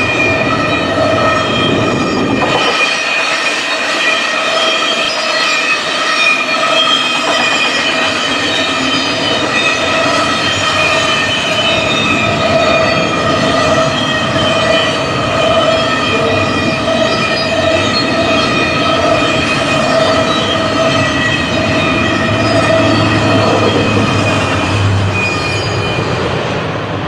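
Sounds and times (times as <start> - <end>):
continuous high whine: 0.0 - 27.0
train rumbling past: 0.0 - 27.0.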